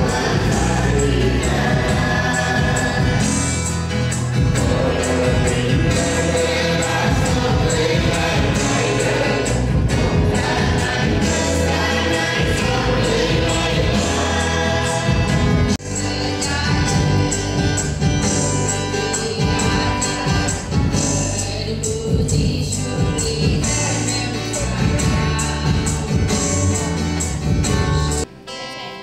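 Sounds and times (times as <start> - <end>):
choir singing a hymn: 0.0 - 29.0
instrumental accompaniment with beat: 0.0 - 29.0.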